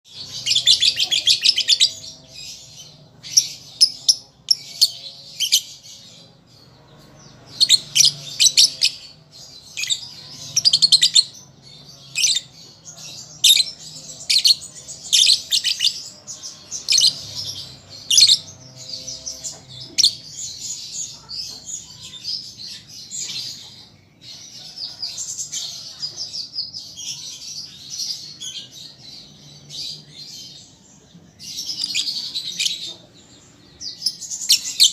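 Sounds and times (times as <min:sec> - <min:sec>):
lovebird twittering and chirping: 0:00.1 - 0:34.9.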